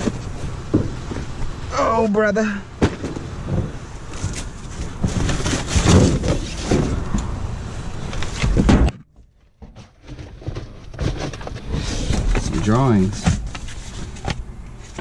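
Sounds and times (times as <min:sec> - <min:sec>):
cardboard and trash rustling: 0:00.0 - 0:01.5, 0:02.8 - 0:07.4, 0:08.0 - 0:15.0.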